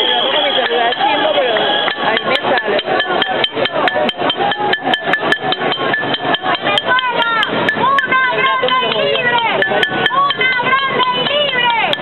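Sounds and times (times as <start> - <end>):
voices shouting: 0.0 - 12.0.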